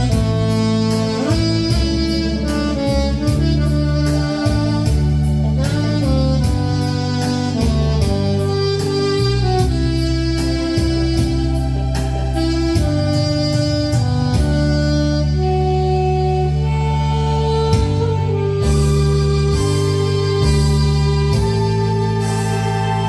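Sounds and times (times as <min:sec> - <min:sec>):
backing track with steady beat: 0:00.0 - 0:23.0
saxophone playing slow melody: 0:00.0 - 0:23.0.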